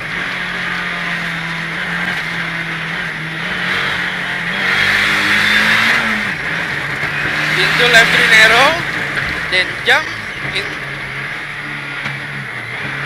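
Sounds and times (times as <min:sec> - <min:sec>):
rally car engine pulling hard: 0:00.0 - 0:13.0.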